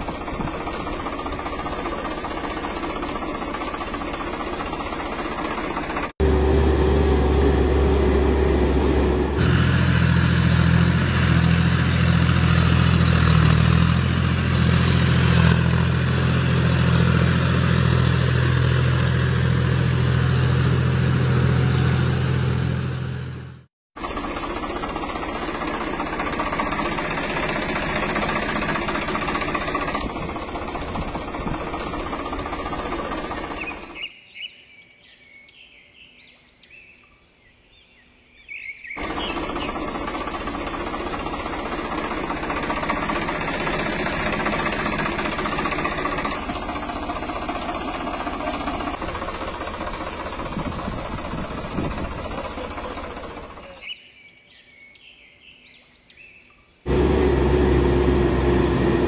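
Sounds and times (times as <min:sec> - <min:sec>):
tractor engine rattling: 0:00.0 - 0:34.1, 0:39.0 - 0:53.9, 0:56.9 - 0:59.0.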